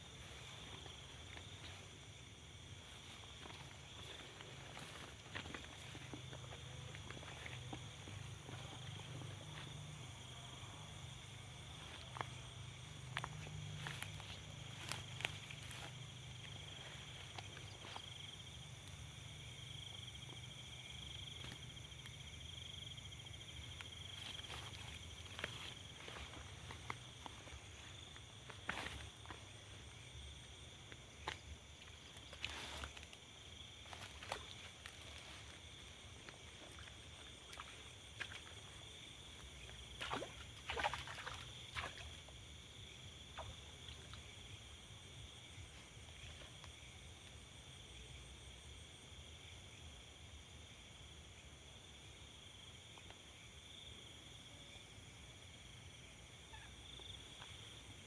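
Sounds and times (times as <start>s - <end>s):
insects trilling: 0.0s - 49.1s.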